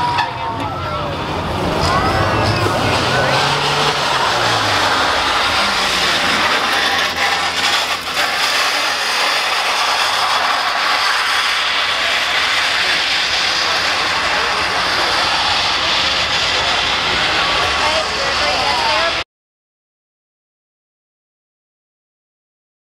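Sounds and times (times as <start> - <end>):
metal scraping on pavement: 0.0 - 19.2.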